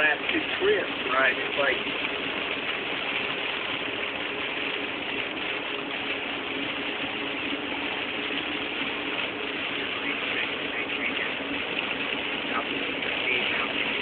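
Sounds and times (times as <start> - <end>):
car engine and road noise: 0.0 - 14.0
faint steady hum: 0.0 - 14.0.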